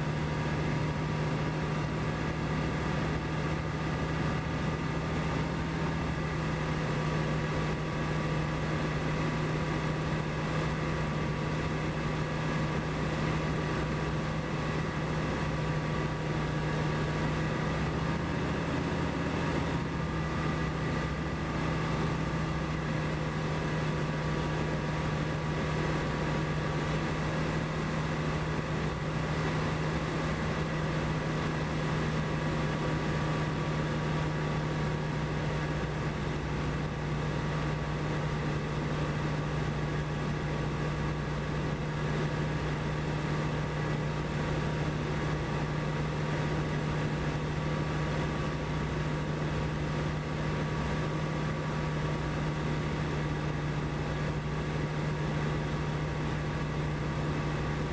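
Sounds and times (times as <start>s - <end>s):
light aircraft engine droning: 0.0s - 57.9s.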